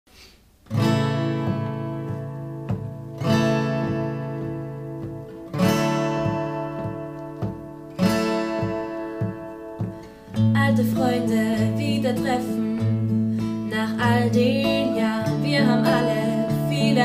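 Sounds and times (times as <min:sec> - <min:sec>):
acoustic guitar strumming chords: 0:00.6 - 0:17.0.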